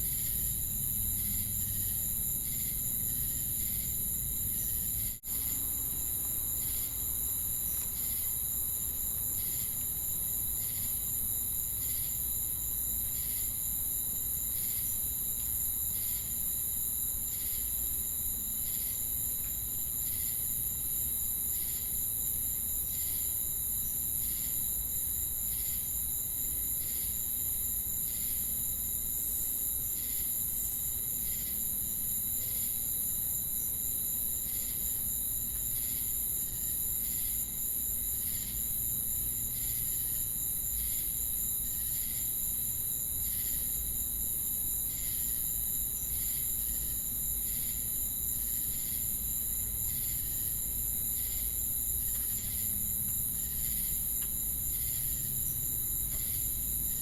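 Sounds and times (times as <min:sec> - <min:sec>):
crickets and cicadas droning: 0:00.0 - 0:57.0
pulsing insect chirp: 0:00.0 - 0:57.0.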